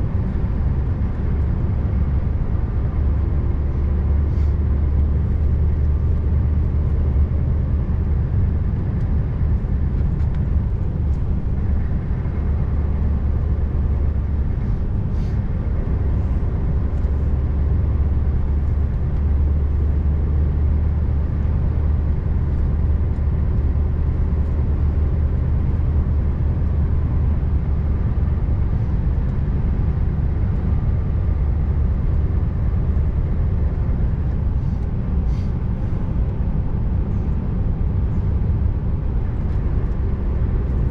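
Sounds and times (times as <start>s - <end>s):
truck engine drone: 0.0s - 40.9s.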